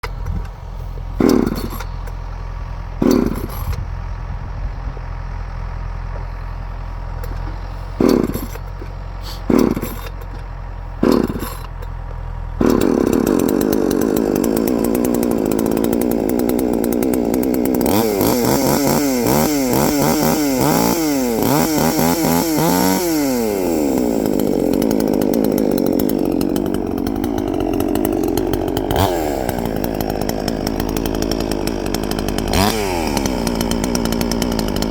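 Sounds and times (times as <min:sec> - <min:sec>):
chainsaw revving: 0:00.0 - 0:03.9, 0:05.0 - 0:11.8, 0:12.5 - 0:34.9.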